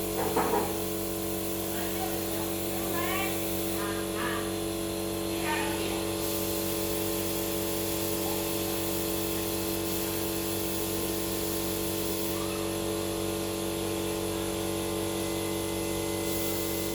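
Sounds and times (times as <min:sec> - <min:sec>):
mechanical hum with tones: 0:00.0 - 0:16.9.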